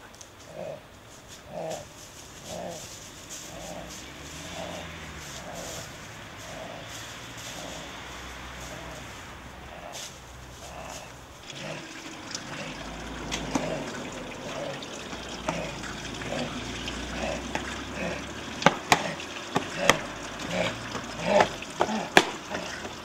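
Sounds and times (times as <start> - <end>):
fountain water trickling and splashing: 1.4 - 23.0.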